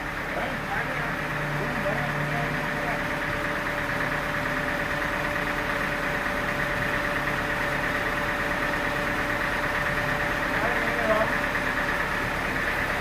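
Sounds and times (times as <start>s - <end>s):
sawmill engine running: 0.0s - 13.0s.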